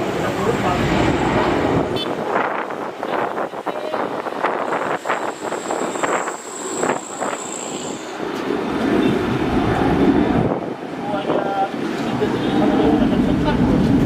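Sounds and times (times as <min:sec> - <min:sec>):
jet engine high whine: 0:00.0 - 0:14.0
jet engine low rumble: 0:00.0 - 0:14.0
wind buffeting microphone: 0:00.0 - 0:14.0.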